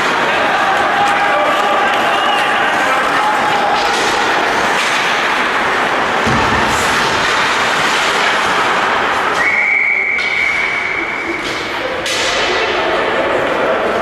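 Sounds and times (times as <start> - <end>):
ice rink noise: 0.0 - 14.0.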